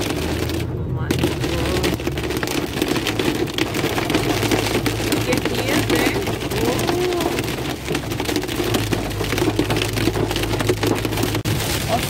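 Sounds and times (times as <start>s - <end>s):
car driving on wet road hum: 0.0s - 12.0s
rain and hail on car roof: 0.0s - 12.0s.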